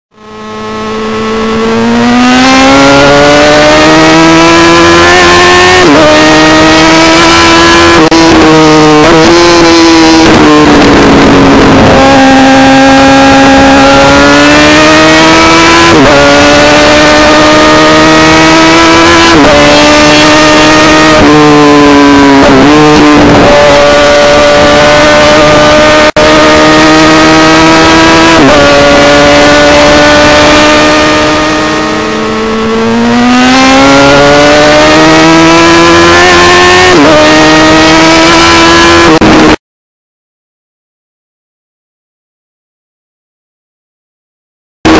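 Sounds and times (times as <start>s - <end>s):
motorcycle accelerating with loud exhaust: 0.1s - 39.6s.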